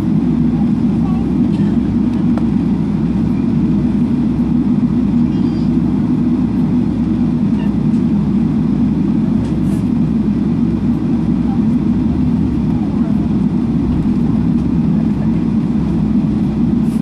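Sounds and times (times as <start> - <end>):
airplane cabin low rumble: 0.0 - 17.0.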